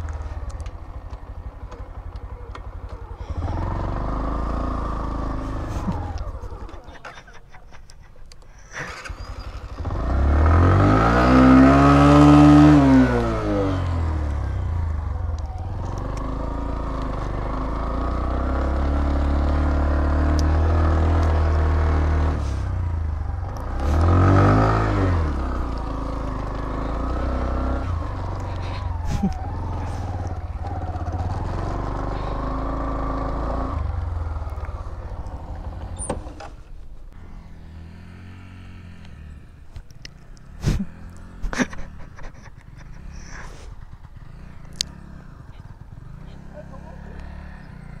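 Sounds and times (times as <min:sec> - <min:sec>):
motorcycle engine running: 0:00.0 - 0:07.5, 0:08.8 - 0:48.0.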